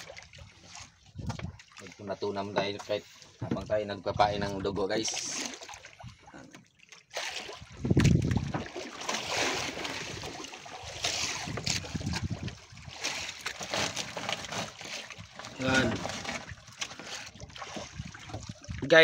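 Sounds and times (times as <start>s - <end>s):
water sloshing and trickling: 0.0s - 19.0s.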